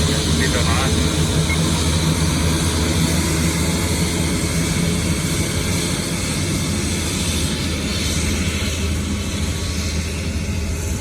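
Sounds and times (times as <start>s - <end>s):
jet airliner engines running: 0.0s - 11.0s.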